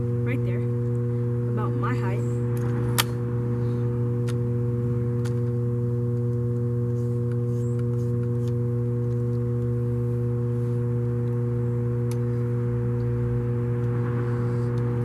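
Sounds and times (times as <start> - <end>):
loud steady low hum: 0.0 - 15.0.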